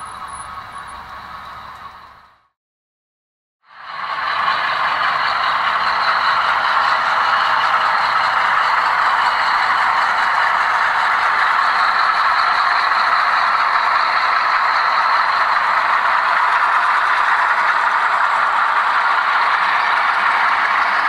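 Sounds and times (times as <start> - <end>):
model train running: 0.0 - 2.4, 3.8 - 21.0.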